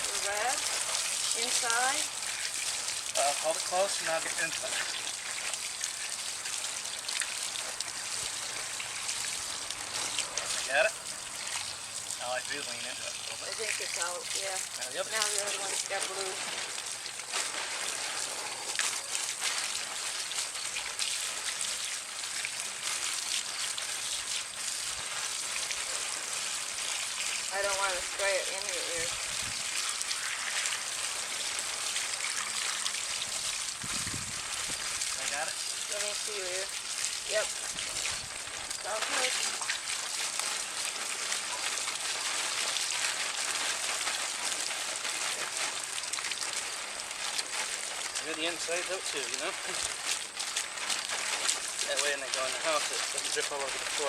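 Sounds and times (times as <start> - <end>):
garden hose spraying water: 0.0 - 54.0.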